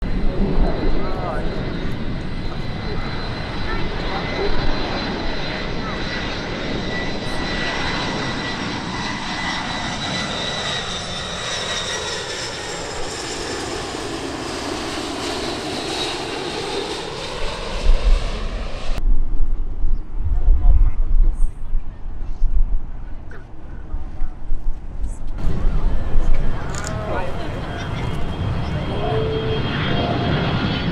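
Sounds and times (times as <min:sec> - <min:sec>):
jet airliner engines passing overhead: 0:00.0 - 0:30.9
low gusty rumble: 0:00.0 - 0:30.9.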